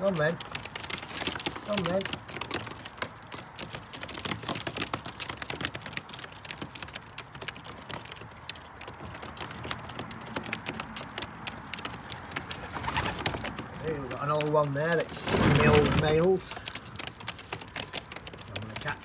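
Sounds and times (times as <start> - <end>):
pigeons tapping on ledge: 0.0 - 19.0.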